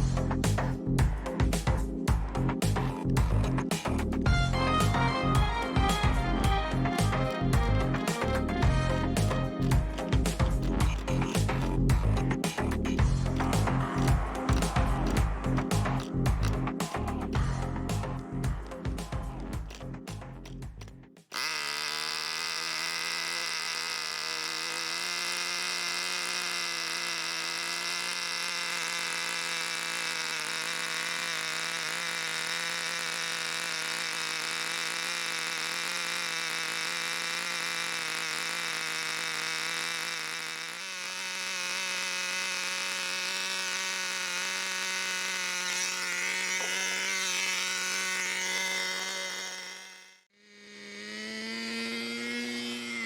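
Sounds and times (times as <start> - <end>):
rc car engine buzzing: 0.0 - 53.0.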